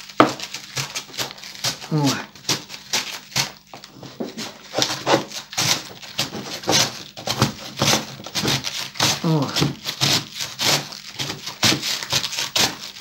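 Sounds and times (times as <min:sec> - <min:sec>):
cabbage scraping over shredder blade: 0:00.0 - 0:13.0.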